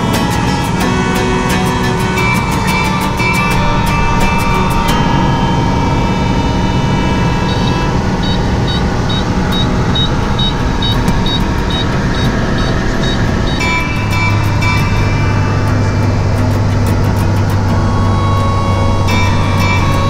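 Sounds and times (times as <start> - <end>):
propeller airplane engine droning: 0.0 - 20.0.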